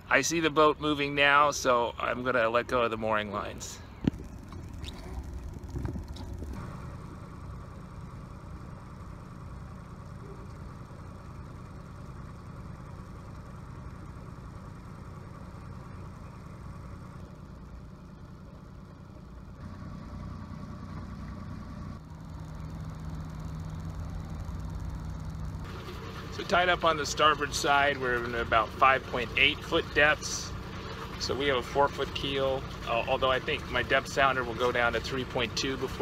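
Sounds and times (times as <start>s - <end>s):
boat engine running: 0.0s - 36.0s
low hum: 0.0s - 36.0s.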